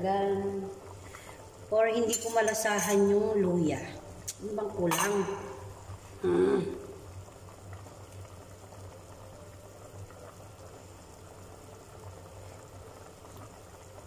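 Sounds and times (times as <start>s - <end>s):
low steady hum: 0.0s - 14.0s
pot bubbling: 0.0s - 14.0s.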